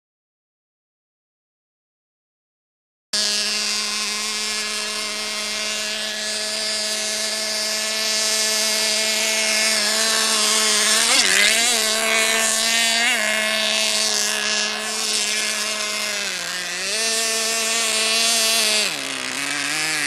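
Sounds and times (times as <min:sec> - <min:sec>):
model boat engine high-pitched whine: 0:03.2 - 0:20.0.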